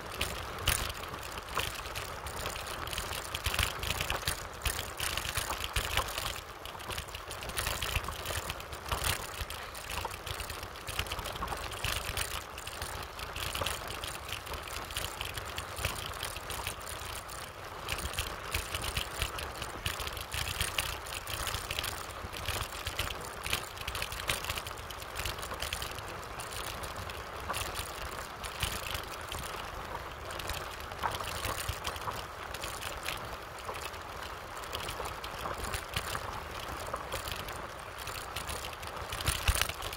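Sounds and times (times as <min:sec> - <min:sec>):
bicycle rattling over dirt road: 0:00.0 - 0:39.9.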